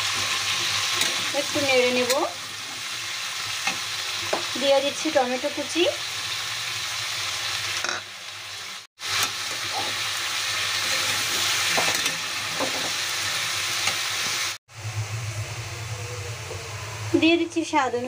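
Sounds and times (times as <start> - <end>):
vegetables sizzling in hot oil: 0.0 - 14.6.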